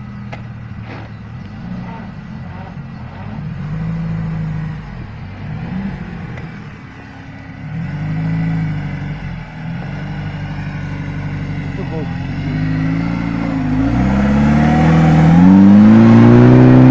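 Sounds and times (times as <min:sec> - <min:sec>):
off-road engine revving: 0:00.0 - 0:16.9.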